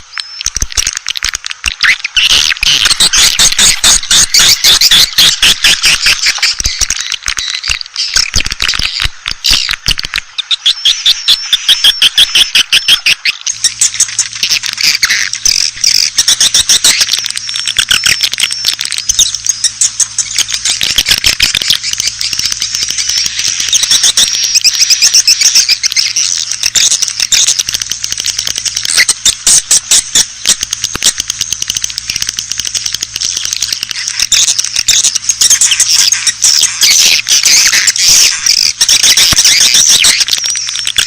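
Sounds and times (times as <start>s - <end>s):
swiftlets twittering: 0.0s - 41.0s.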